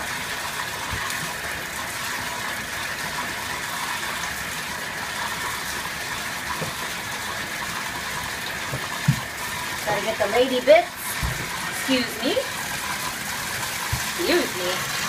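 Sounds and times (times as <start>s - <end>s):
water running into bathtub: 0.0s - 15.0s.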